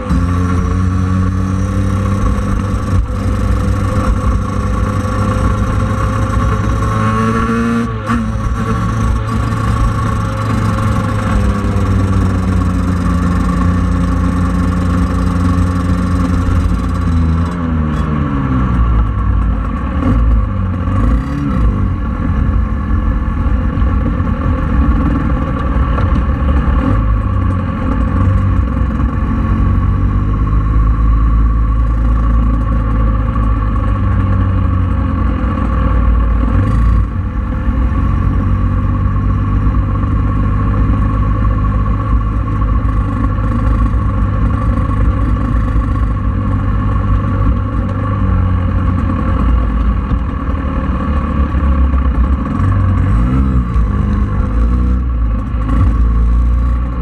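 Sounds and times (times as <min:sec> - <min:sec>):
scooter engine running: 0:00.0 - 0:57.0.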